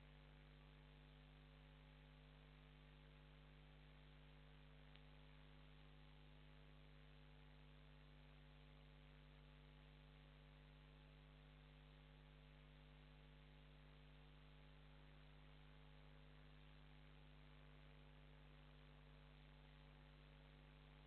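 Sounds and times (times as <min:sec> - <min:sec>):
faint mains hum with hiss: 0:00.0 - 0:21.0.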